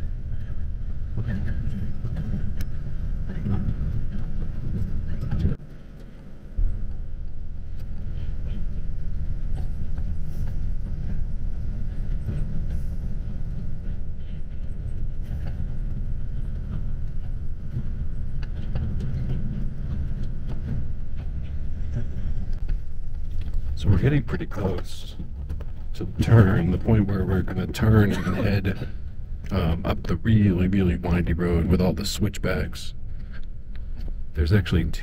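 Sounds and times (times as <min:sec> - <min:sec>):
bus engine and tyres rumbling: 0:00.0 - 0:35.0.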